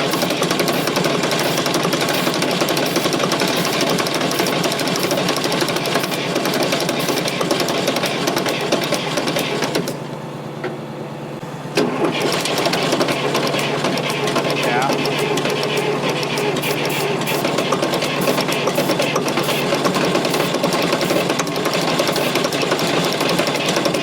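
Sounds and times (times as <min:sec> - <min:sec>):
diesel engine cranking by starter: 0:00.0 - 0:10.6, 0:11.4 - 0:24.0.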